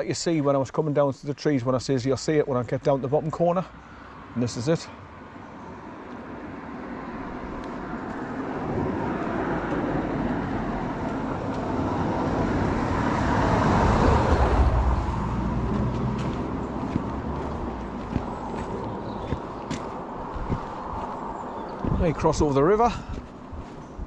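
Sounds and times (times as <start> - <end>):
car passing: 3.6 - 24.0.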